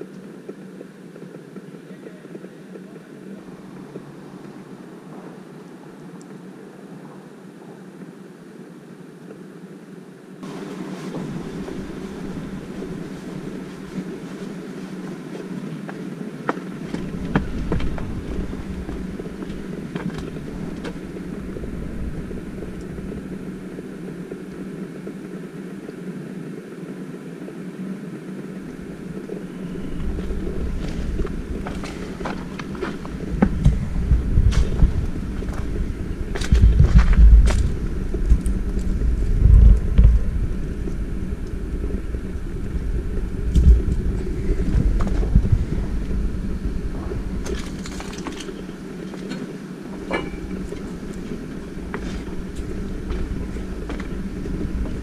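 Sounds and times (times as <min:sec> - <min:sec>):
wind buffeting microphone: 0:10.4 - 0:55.0.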